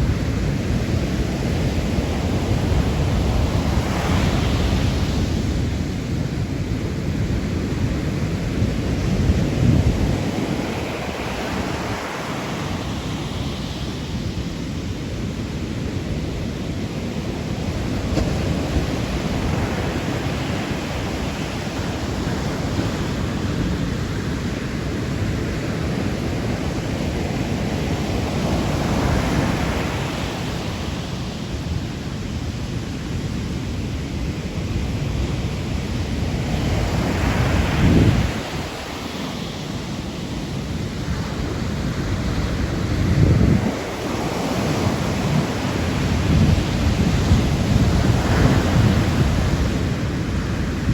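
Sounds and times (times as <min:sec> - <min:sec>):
low wash of surf: 0:00.0 - 0:50.9
ocean waves breaking: 0:00.0 - 0:50.9.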